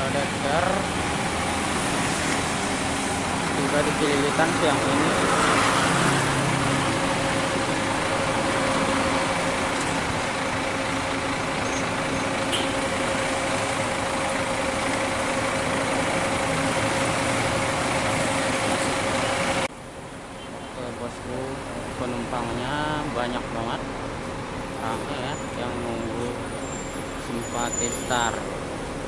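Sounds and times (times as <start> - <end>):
diesel bus engine idling: 0.0 - 29.0.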